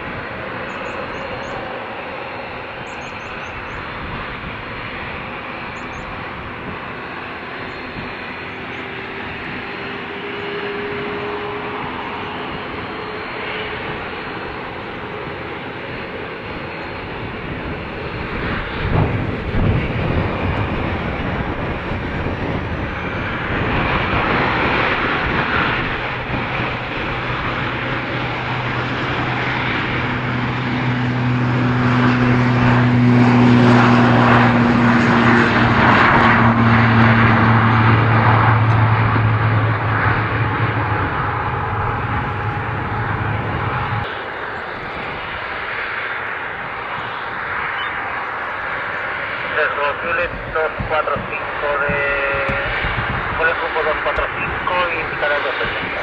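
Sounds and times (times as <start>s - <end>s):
jet engines taxiing: 0.0s - 56.0s.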